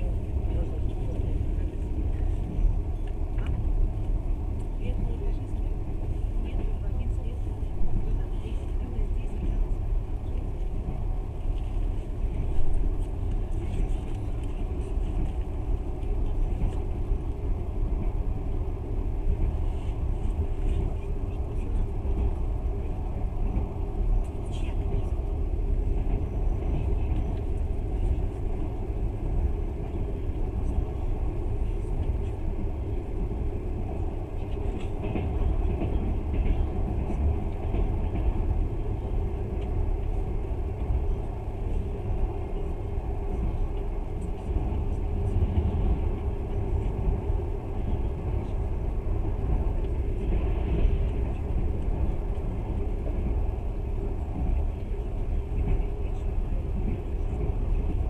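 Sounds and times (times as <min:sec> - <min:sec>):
train rumble inside carriage: 0:00.0 - 0:58.0.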